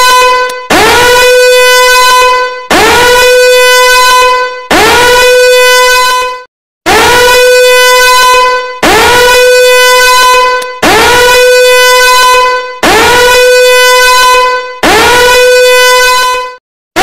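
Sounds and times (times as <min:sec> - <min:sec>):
alarm horn blasts: 0:00.0 - 0:17.0.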